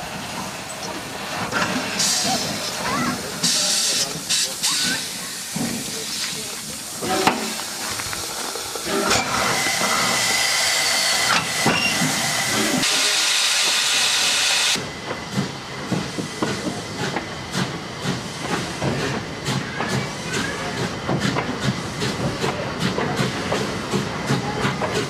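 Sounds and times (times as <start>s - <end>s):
steam locomotive hissing steam: 0.0s - 25.0s
train knocking and rumbling: 0.0s - 25.0s.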